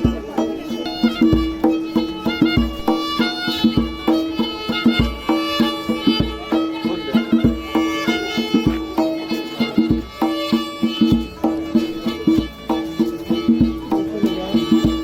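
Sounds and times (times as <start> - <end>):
steady deep beat: 0.0 - 15.0.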